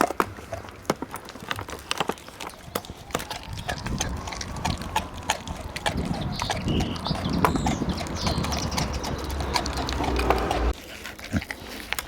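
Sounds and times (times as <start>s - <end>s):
dog gnawing a bone: 0.0s - 12.0s
wet smacking: 0.5s - 10.8s.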